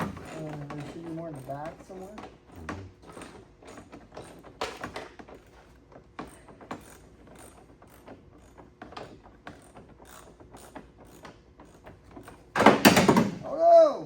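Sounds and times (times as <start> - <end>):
hand ratchet clicking: 0.0 - 12.6.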